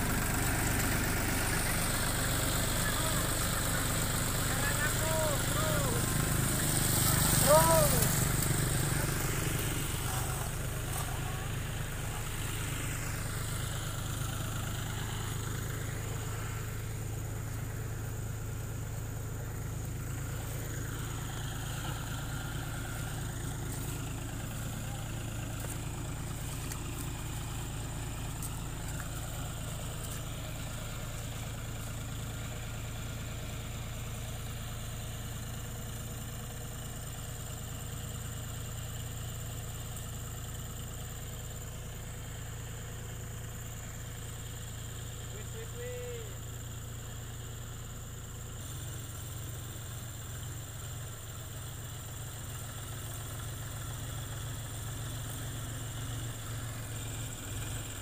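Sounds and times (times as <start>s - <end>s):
heavy machine engine humming: 0.0s - 47.1s.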